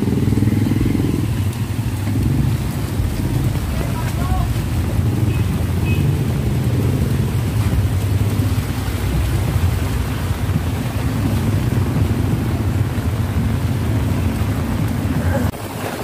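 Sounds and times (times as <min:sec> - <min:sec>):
idling engines rumbling: 0:00.0 - 0:15.6
rain hissing on wet street: 0:00.0 - 0:16.0.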